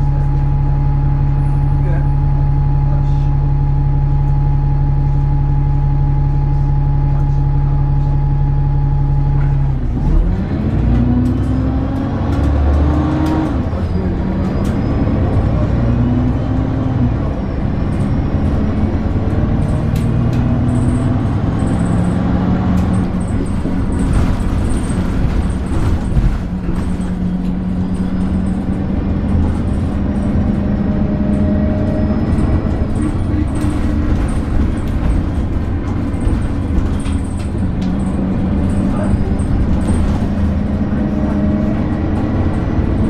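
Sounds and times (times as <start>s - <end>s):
bus engine: 0.0s - 43.0s.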